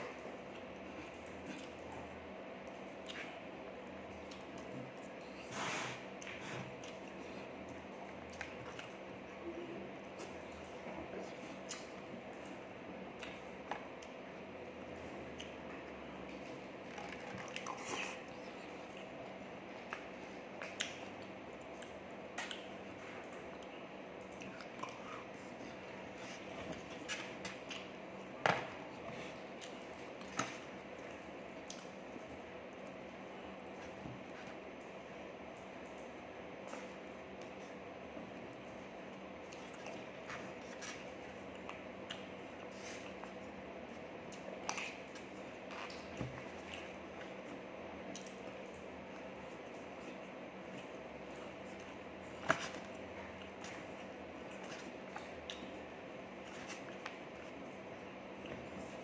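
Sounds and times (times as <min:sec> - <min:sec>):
man chewing with mouth smacks: 0:00.0 - 0:59.0
room hum: 0:00.0 - 0:59.0.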